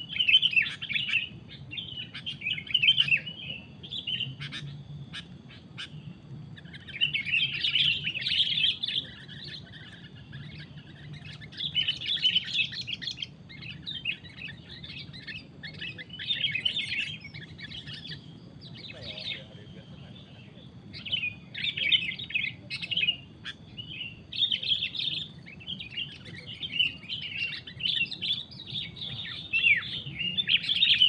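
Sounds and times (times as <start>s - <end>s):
birds chattering: 0.0s - 31.0s.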